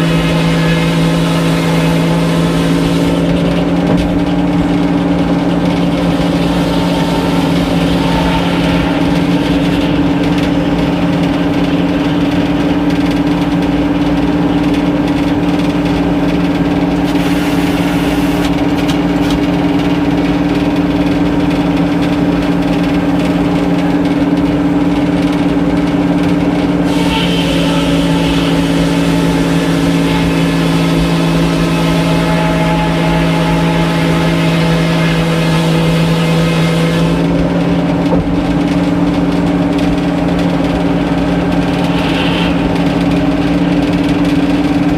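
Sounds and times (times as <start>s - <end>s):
sawmill machinery droning: 0.0s - 44.9s.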